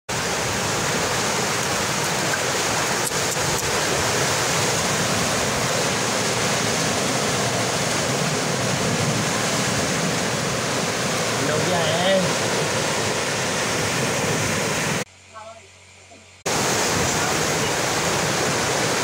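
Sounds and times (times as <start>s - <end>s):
river water rushing: 0.1s - 15.1s, 16.5s - 19.0s.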